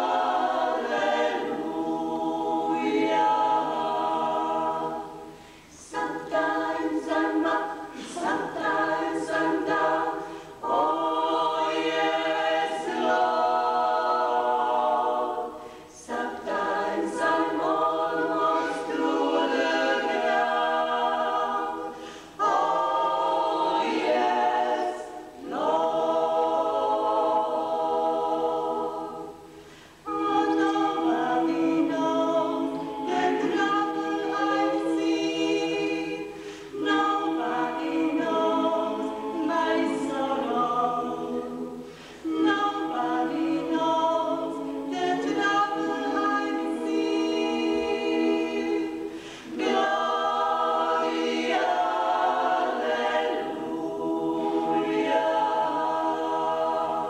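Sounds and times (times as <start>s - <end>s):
women singing in close harmony: 0.0s - 57.0s.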